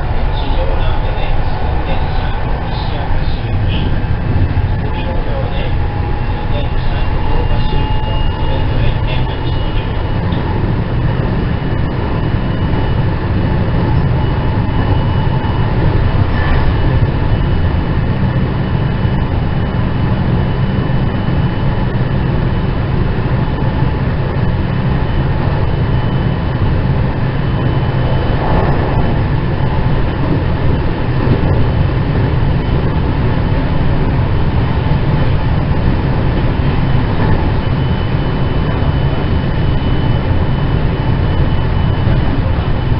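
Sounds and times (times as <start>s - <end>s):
faint steady whine: 0.0s - 42.9s
train wheels rumbling on rail: 0.0s - 42.9s.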